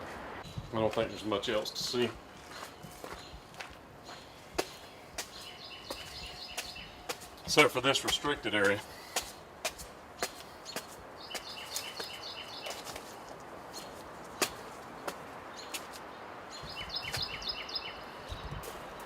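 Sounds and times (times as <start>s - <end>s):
outdoor background hiss: 0.0s - 19.0s
songbird chirping: 0.4s - 19.0s.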